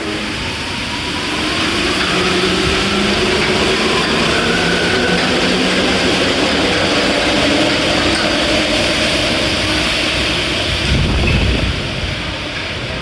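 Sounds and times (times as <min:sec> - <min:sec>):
metro train rumbling in tunnel: 0:00.0 - 0:13.0.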